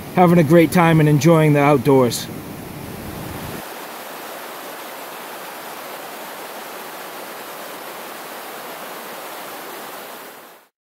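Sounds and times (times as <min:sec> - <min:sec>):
fast-flowing river water: 0:00.0 - 0:10.7.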